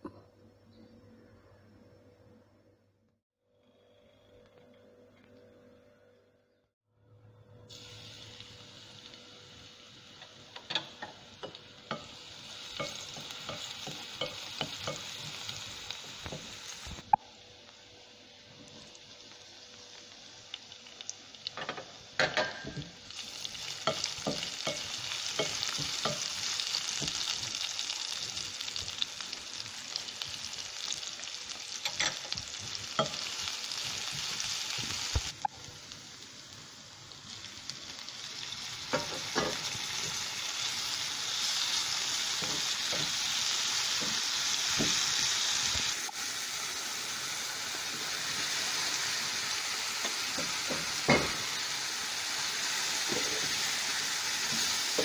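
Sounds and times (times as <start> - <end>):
vegetables sizzling in oil: 7.7 - 55.0.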